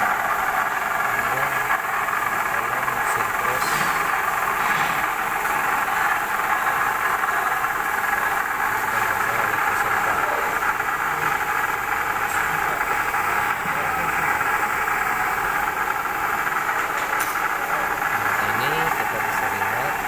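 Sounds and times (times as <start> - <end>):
milling machine cutting metal: 0.0 - 20.0.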